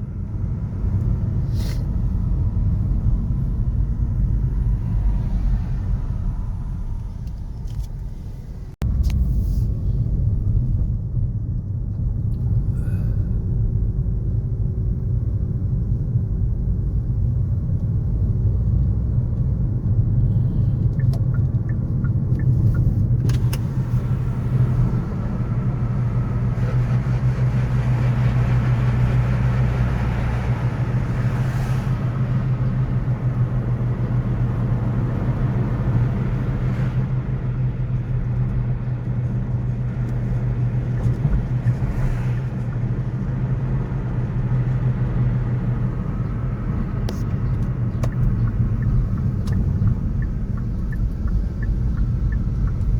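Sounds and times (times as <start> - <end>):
passing cars rumbling: 0.0 - 11.0, 17.4 - 52.9.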